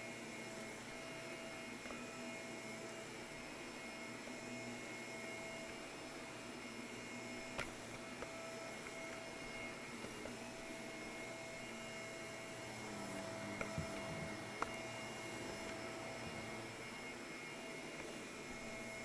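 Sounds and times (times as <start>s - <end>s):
vacuum cleaner on carpet: 0.0s - 19.0s.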